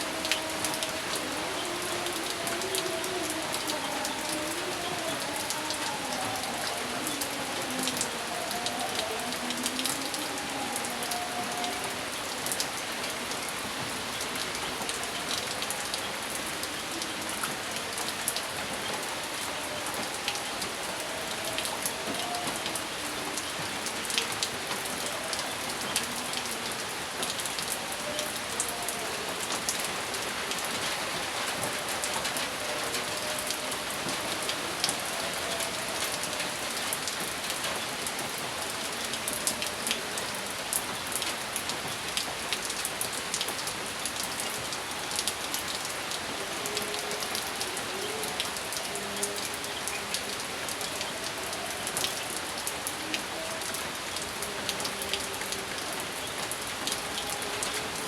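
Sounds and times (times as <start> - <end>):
raindrops ticking on a surface: 0.0 - 58.0
steady rain falling: 0.0 - 58.0.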